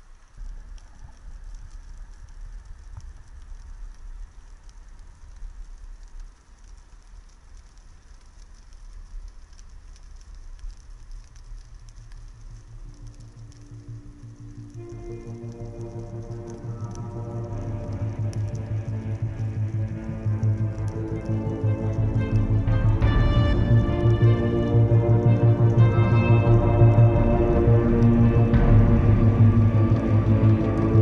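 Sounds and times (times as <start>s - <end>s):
fine crackle of tiny clicks: 0.0s - 31.0s
low rumble of moving water: 0.0s - 31.0s.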